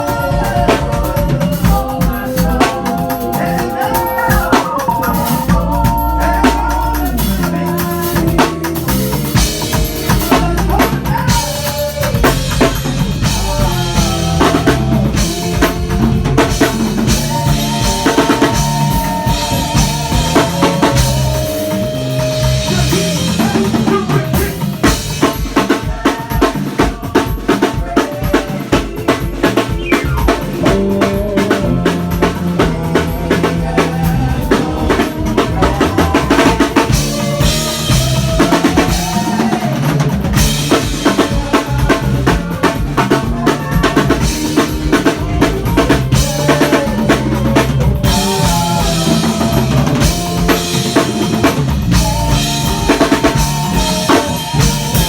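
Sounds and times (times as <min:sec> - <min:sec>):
band playing: 0:00.0 - 0:55.0
bass line: 0:00.0 - 0:55.0
drum kit: 0:00.0 - 0:55.0.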